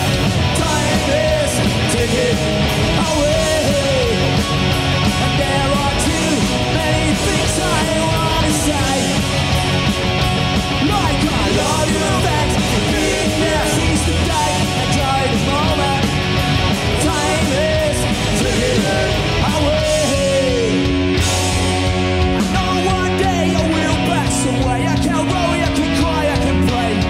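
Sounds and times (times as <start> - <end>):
punk rock band playing live: 0.0 - 27.0.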